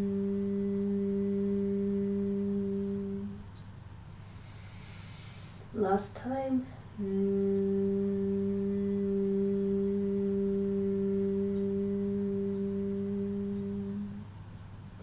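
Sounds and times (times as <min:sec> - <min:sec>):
woman humming low note: 0:00.0 - 0:03.6, 0:05.8 - 0:14.3.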